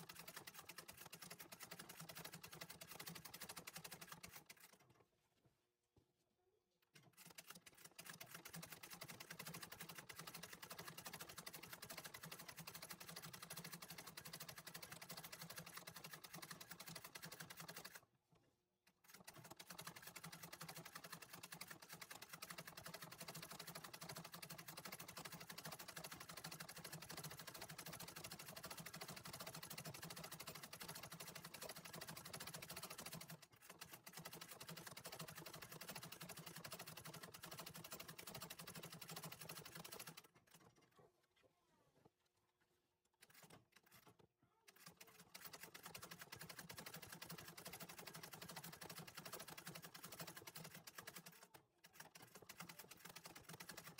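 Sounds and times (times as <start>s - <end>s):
treadle sewing machine running: 0.0s - 4.9s, 6.9s - 18.0s, 19.0s - 40.9s, 43.2s - 53.9s.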